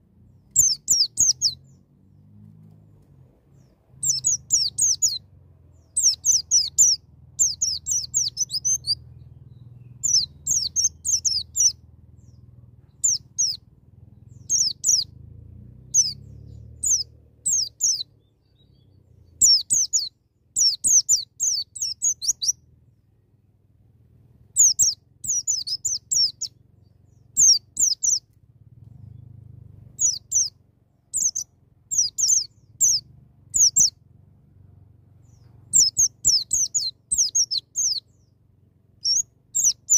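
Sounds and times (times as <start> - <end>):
bird chirping rapidly: 0.3 - 1.9, 3.4 - 23.1, 24.4 - 28.3, 29.0 - 34.0, 35.2 - 38.4, 39.0 - 39.9.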